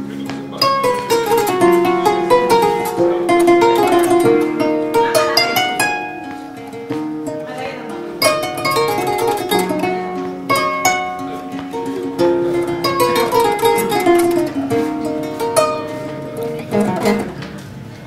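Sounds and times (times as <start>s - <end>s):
plucked harp-lute melody: 0.0s - 18.0s.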